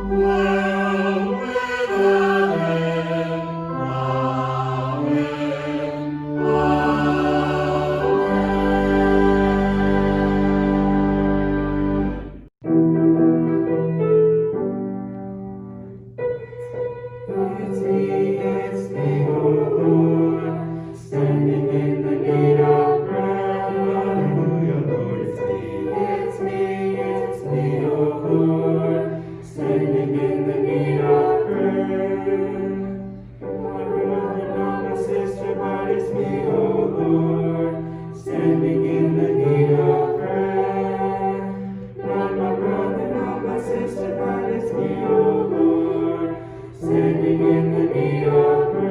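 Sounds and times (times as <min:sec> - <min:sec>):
choir singing a hymn: 0:00.0 - 0:12.2, 0:17.2 - 0:48.9.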